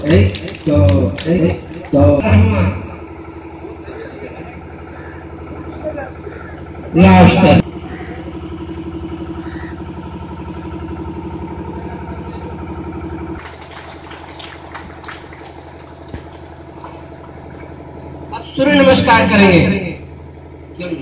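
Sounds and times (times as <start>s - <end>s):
engine idling hum: 0.0s - 21.0s.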